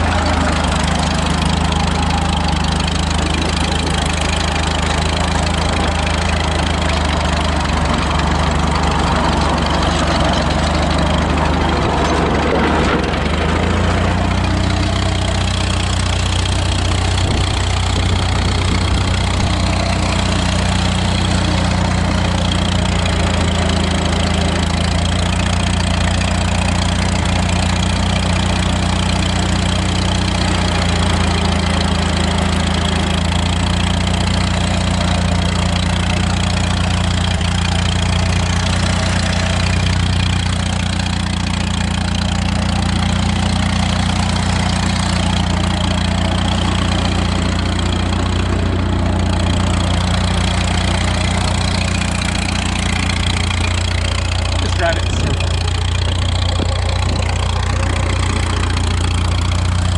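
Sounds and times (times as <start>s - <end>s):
crawler tractor engine running: 0.0s - 59.9s.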